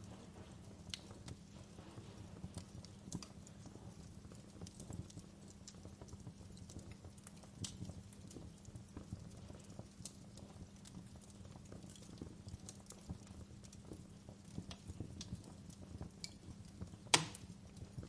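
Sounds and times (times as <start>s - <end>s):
fire crackles and pops: 0.0s - 18.0s
low rumble of flames: 0.0s - 18.0s.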